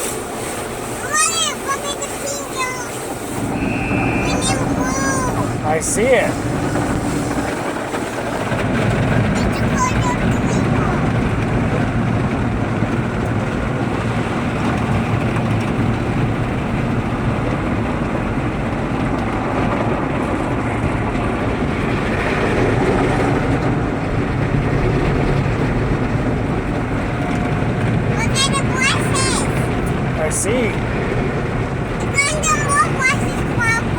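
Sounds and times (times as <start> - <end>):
car wash water spray: 0.0 - 33.9.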